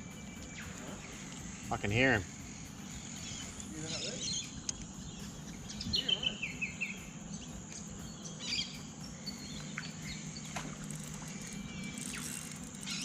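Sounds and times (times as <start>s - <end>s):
high insect drone: 0.0s - 13.0s
low steady hum: 0.0s - 13.0s.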